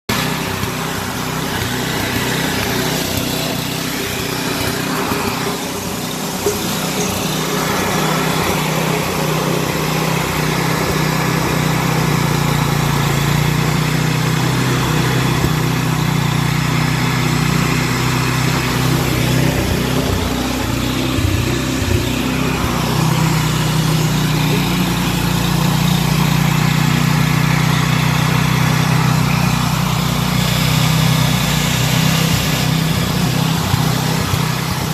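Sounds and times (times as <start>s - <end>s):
hair dryer running: 0.1s - 34.9s.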